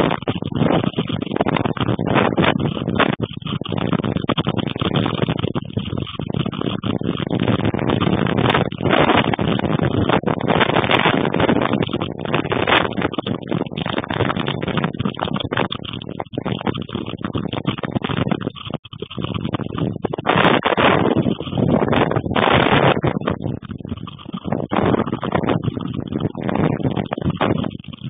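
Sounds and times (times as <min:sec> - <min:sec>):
strong wind gusting on microphone: 0:00.0 - 0:28.0.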